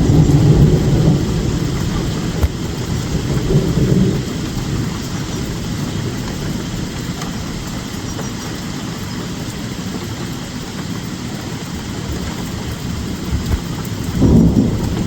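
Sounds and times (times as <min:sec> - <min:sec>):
distant thunder rumble: 0:00.0 - 0:15.0
steady rain: 0:00.0 - 0:15.0.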